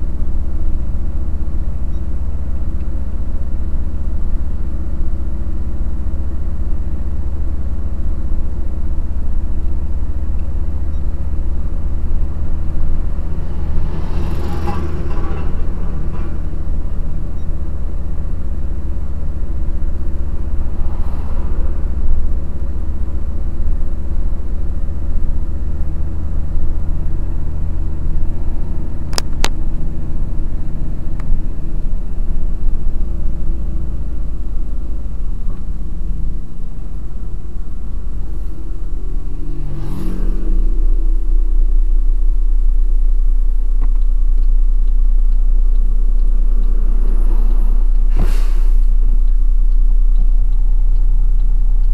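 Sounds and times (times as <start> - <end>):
road rumble: 0.0 - 51.9
truck engine droning: 0.0 - 51.9.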